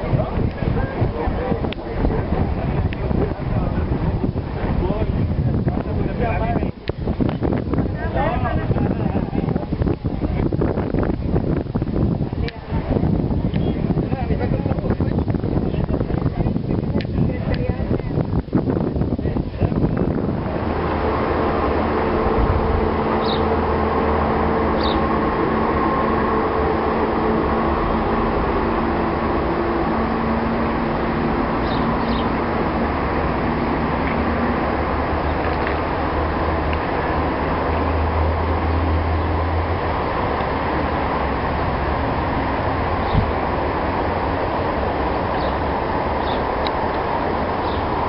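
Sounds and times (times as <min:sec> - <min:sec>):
road traffic engine hum: 0:00.0 - 0:48.0.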